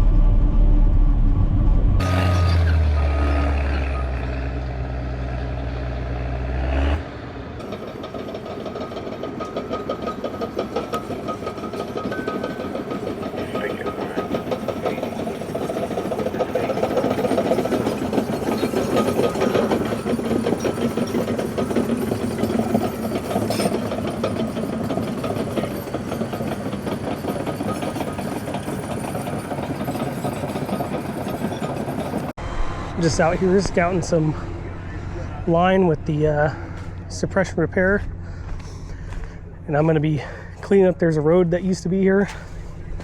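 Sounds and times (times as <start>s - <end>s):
bulldozer diesel engine clattering: 2.0s - 32.4s, 33.0s - 43.0s.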